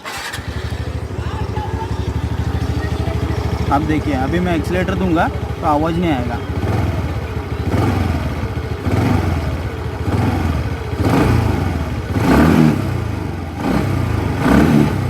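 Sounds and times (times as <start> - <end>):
scooter engine idling and revving: 0.0 - 15.0.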